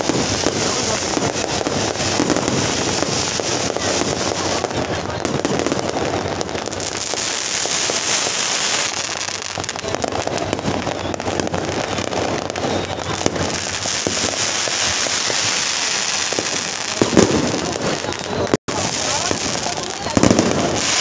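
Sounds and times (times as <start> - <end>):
firecrackers going off: 0.0 - 21.0.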